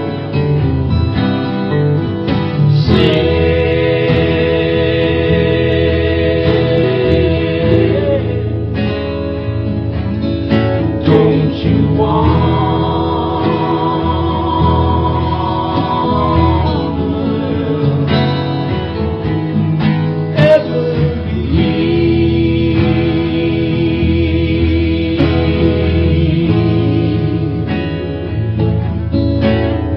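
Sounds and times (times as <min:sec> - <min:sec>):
acoustic folk band on guitars: 0:00.0 - 0:29.9.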